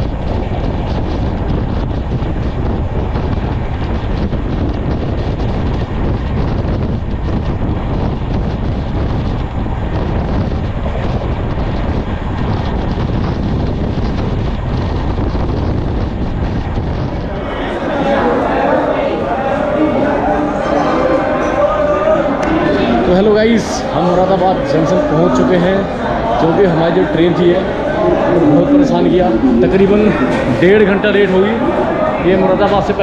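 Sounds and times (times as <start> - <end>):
train rumbling on rails: 0.0 - 33.0
wind rushing over microphone: 0.0 - 33.0.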